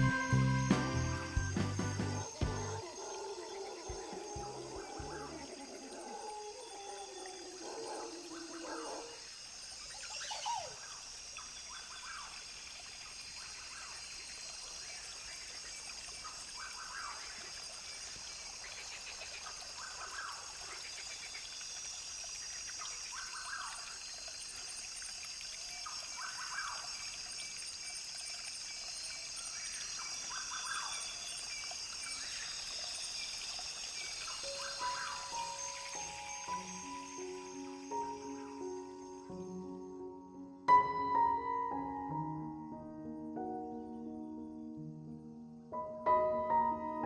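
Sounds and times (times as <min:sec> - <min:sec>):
brook trickling: 0:00.0 - 0:39.6.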